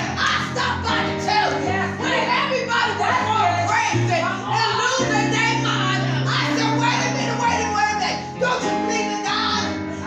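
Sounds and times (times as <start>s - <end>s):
voices singing: 0.0s - 10.0s.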